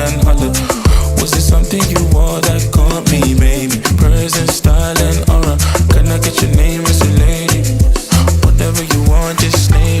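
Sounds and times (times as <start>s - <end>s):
afrobeat style music with steady beat: 0.0s - 10.0s.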